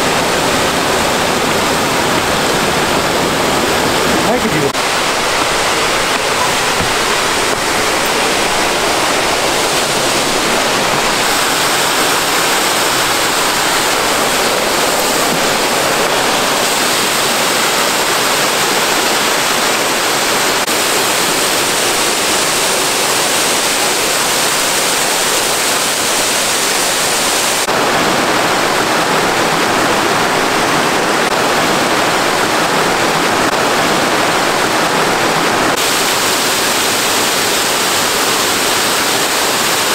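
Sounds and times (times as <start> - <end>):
creek water rushing over boulders: 0.0 - 39.9.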